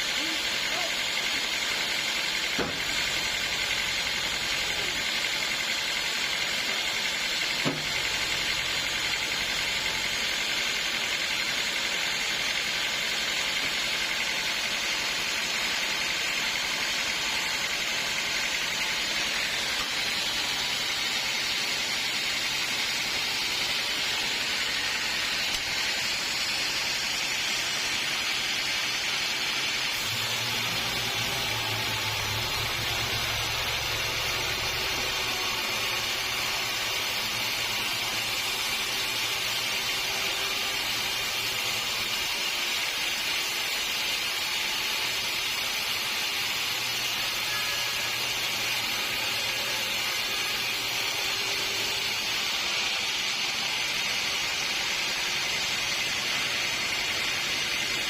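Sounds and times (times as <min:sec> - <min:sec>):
saw cutting through log: 0:00.0 - 0:58.0.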